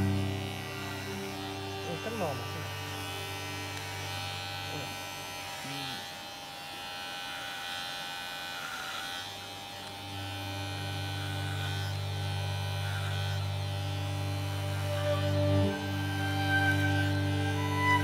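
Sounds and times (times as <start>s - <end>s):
electric hair clipper buzzing: 0.0s - 18.0s.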